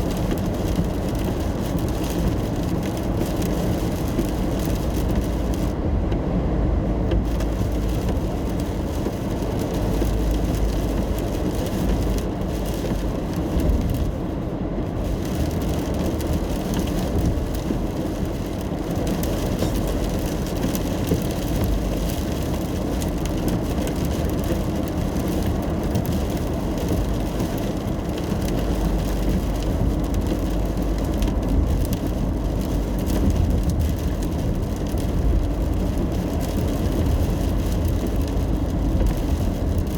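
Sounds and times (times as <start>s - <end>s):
car road and engine rumble: 0.0s - 39.9s
rain on car: 0.0s - 39.9s.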